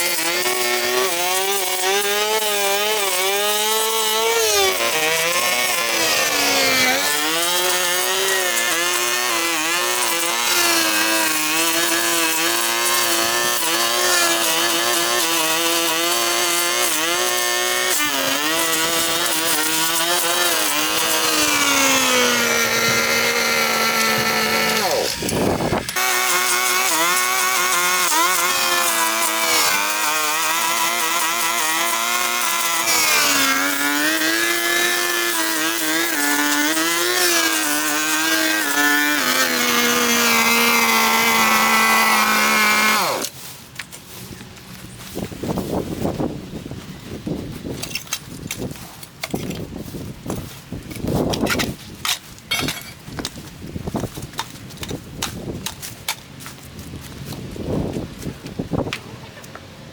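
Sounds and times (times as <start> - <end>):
small petrol engine cutting vegetation: 0.0 - 59.6.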